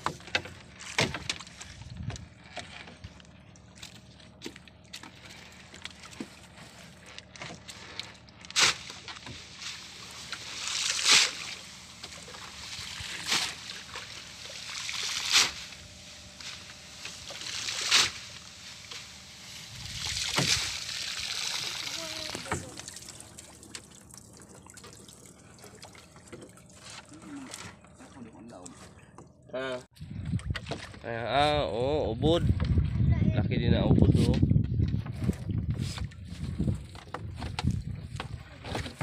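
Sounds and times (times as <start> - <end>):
water sloshing against a boat: 0.0 - 39.0.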